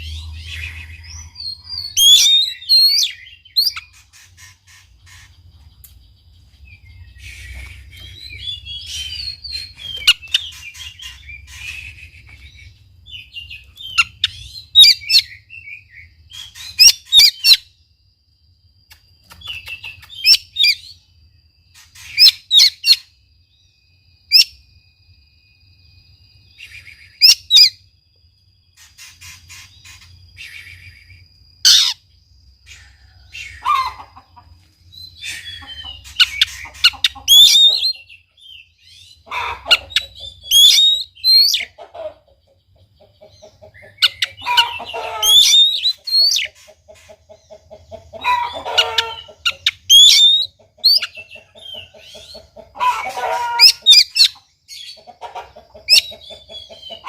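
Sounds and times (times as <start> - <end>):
bird singing chirps: 0.0 - 57.0.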